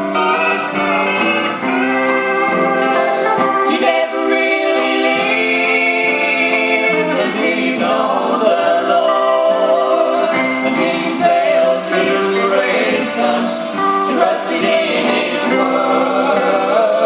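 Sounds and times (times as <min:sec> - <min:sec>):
group singing in harmony: 0:00.0 - 0:17.0
steel guitar: 0:00.0 - 0:17.0.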